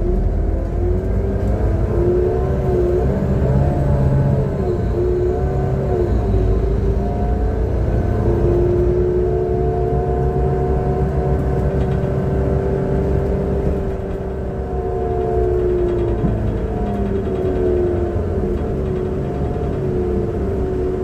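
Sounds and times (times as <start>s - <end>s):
bus engine rumbling: 0.0s - 21.0s
steady driveline whine: 0.0s - 21.0s.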